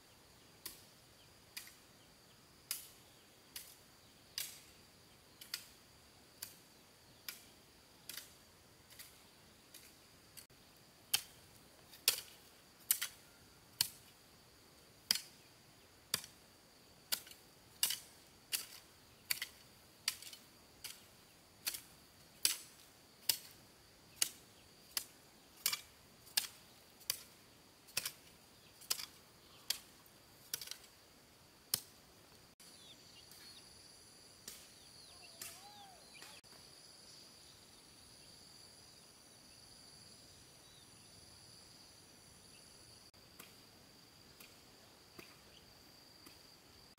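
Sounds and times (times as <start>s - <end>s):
high drone of insects: 0.0s - 46.9s.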